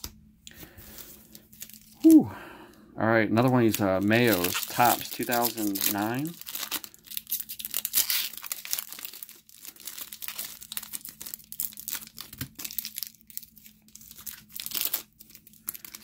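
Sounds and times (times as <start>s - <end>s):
foil wrapper crinkling and tearing: 0.9s - 2.2s, 3.4s - 16.0s.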